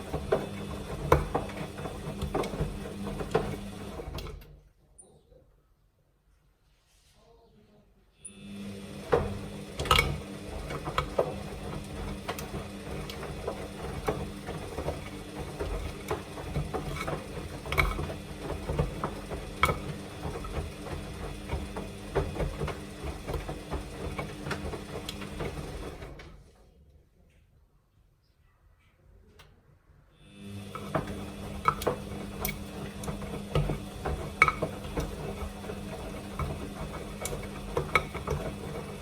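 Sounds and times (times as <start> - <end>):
washing machine motor hum: 0.0 - 4.6, 8.2 - 26.6, 30.2 - 39.0.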